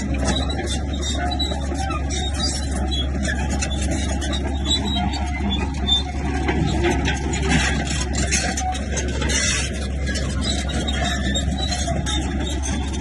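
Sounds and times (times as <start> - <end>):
bulldozer diesel engine running: 0.0 - 13.0
tracks clanking and scraping: 0.0 - 13.0.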